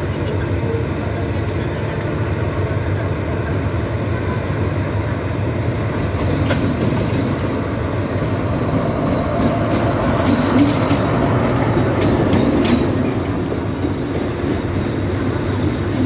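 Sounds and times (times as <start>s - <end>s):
diesel locomotive engine humming: 0.0s - 16.0s
train rumble: 0.0s - 16.0s.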